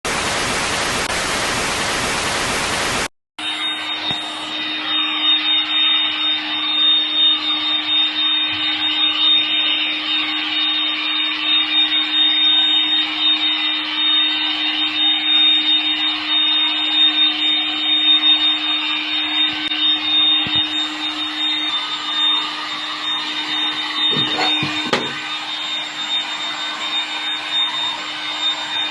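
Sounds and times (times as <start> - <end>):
workshop machine humming and whining: 0.1 - 28.9.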